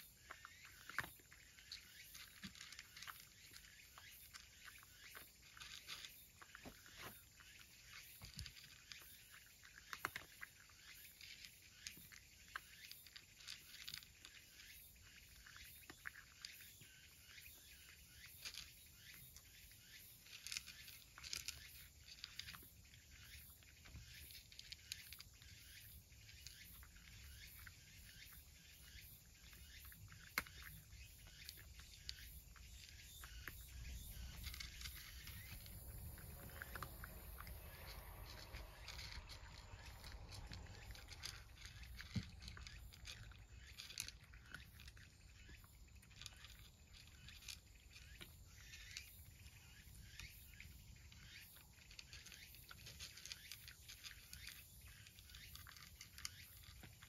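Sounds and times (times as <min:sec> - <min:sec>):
cat chewing and licking: 0:00.0 - 0:17.2, 0:17.9 - 0:57.0.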